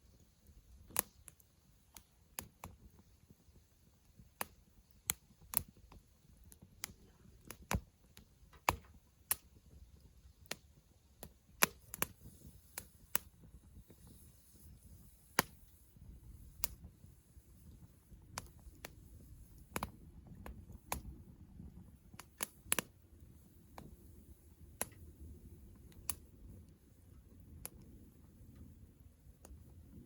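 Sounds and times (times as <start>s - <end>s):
campfire crackling and popping: 0.0s - 30.0s
low rumble of burning fire: 0.0s - 30.0s.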